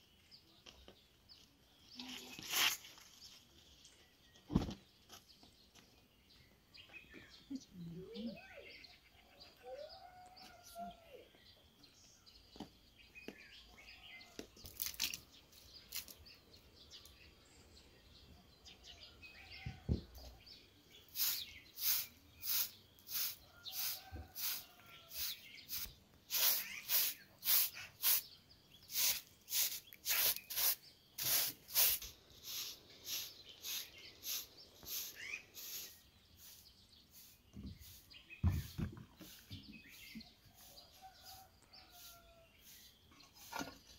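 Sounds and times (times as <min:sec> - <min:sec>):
birds chirping faintly: 0:00.0 - 0:43.9
broom sweeping earthen yard: 0:00.7 - 0:05.9, 0:12.0 - 0:17.6, 0:18.6 - 0:43.9.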